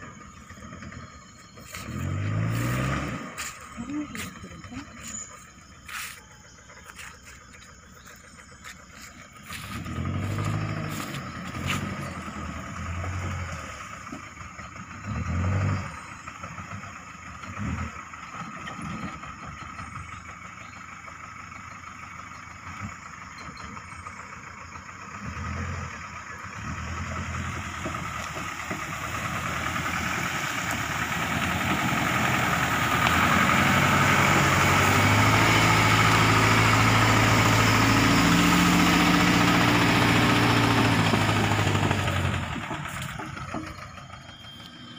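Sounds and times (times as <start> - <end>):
pickup truck engine revving: 0.0 - 20.2, 23.9 - 44.9.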